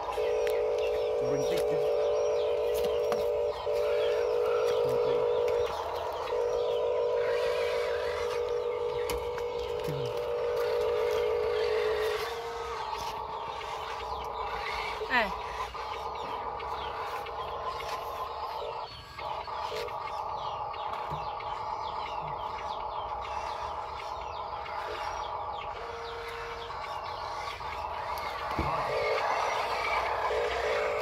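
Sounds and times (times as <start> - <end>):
toy truck motors whining: 0.0 - 31.0.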